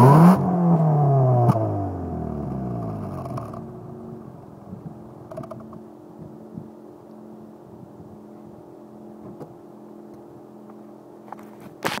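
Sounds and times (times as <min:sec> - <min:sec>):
car engine idling: 0:00.8 - 0:11.8.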